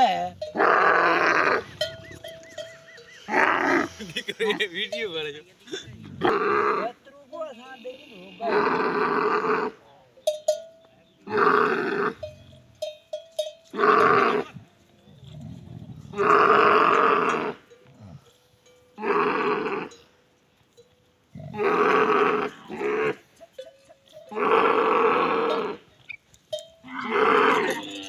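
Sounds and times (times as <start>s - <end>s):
camels calling: 0.0s - 5.0s, 5.6s - 20.1s, 21.3s - 28.0s.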